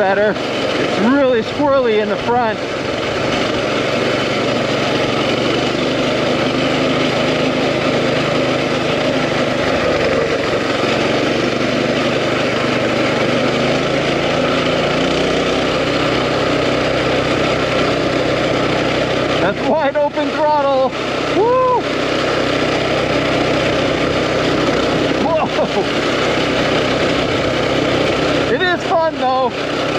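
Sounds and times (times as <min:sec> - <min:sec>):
mini bike engine running: 0:00.0 - 0:29.9.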